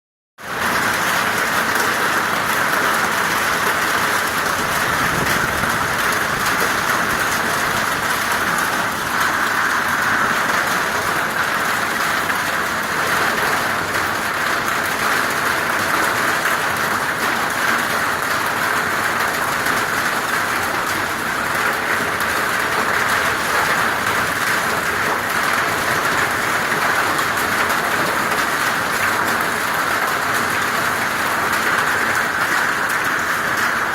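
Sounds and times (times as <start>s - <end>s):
hail striking hard surfaces: 0.5s - 33.9s.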